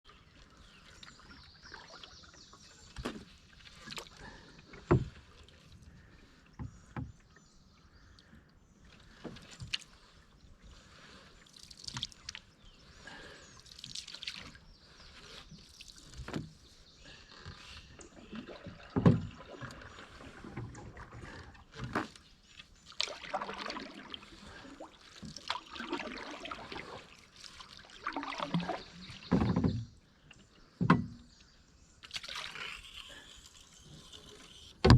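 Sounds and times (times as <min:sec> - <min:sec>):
paddle strokes in water: 0:00.0 - 0:34.9.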